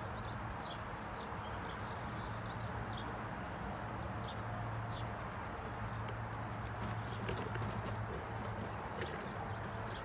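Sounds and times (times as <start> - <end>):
small birds chirping: 0.0 - 3.2, 4.2 - 10.0.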